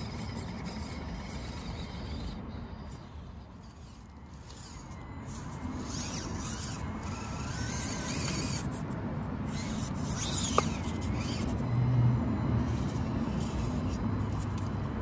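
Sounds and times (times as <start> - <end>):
small electric motor and gears: 0.0 - 15.0.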